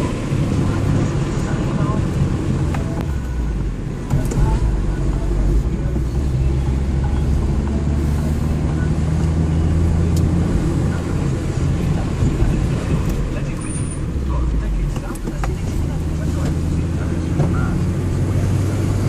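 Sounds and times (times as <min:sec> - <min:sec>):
car engine running: 0:00.0 - 0:19.0
tyre and road noise: 0:00.0 - 0:19.0.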